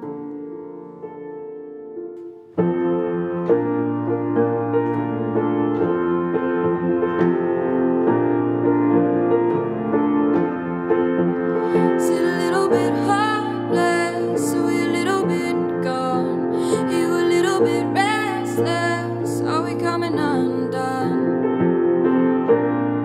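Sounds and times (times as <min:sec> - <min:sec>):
soft sustained music: 0:00.0 - 0:21.7
grand piano playing chords: 0:00.0 - 0:23.0.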